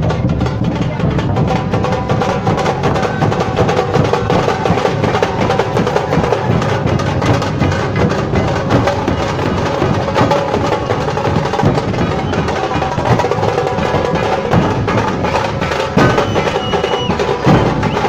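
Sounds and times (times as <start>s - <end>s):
dhol drums playing fast beat: 0.0s - 18.0s.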